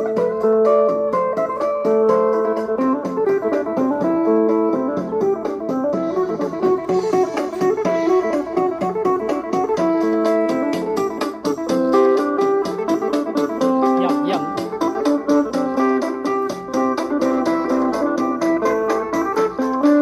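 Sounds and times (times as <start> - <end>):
fast percussion beat: 0.0 - 20.0
plucked electric lead melody: 0.0 - 20.0.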